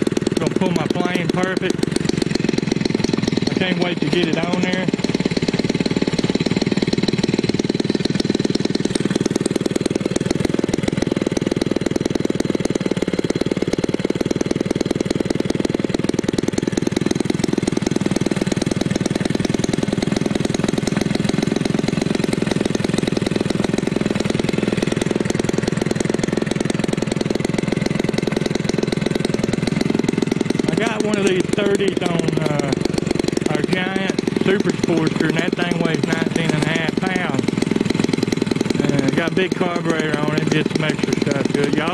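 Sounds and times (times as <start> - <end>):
model airplane engine and propeller: 0.0 - 41.9.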